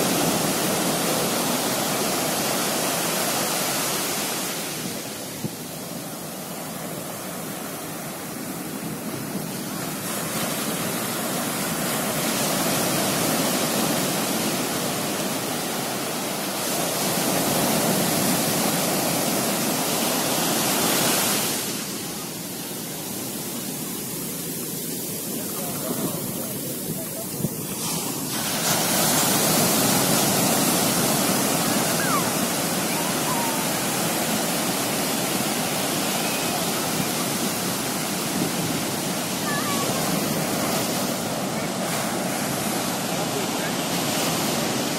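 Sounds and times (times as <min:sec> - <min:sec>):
waves breaking on sandy beach: 0:00.0 - 0:44.9.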